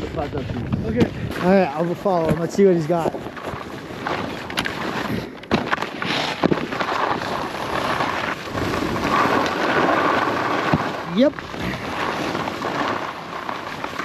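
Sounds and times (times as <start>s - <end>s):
wind on microphone: 0.0s - 5.4s, 6.4s - 12.8s
skis scraping over snow: 0.0s - 14.0s.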